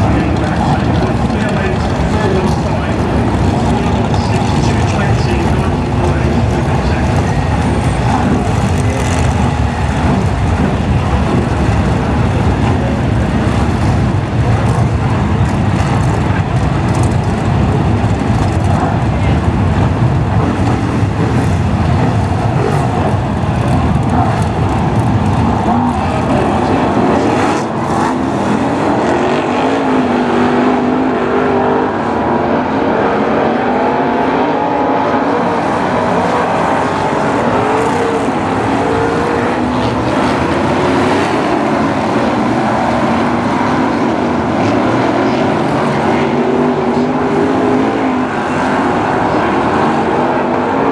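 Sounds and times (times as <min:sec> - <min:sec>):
race car engines roaring: 0:00.0 - 0:50.9.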